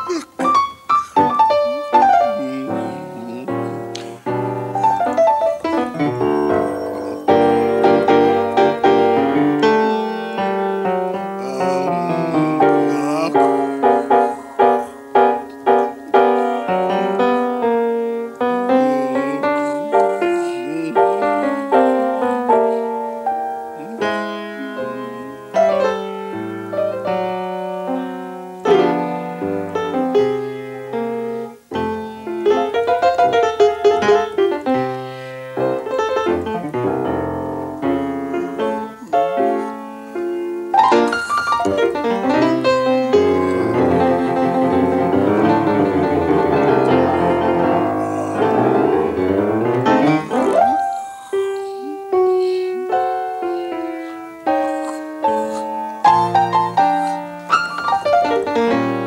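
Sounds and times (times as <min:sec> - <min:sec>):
jazz piano: 0:00.0 - 0:59.0.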